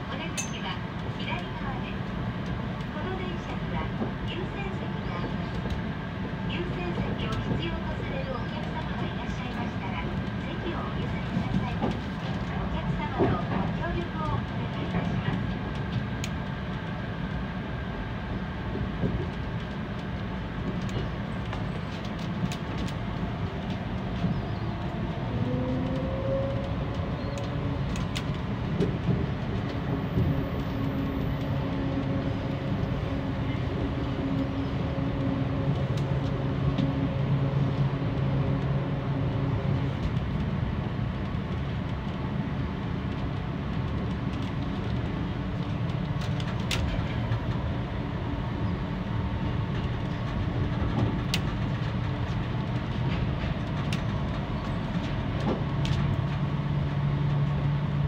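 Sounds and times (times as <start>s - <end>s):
monorail car rumble: 0.0s - 58.0s.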